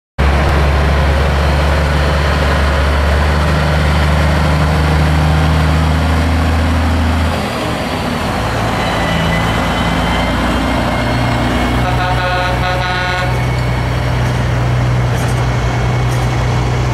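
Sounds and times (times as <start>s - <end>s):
truck diesel engine rumbling: 0.2s - 16.9s.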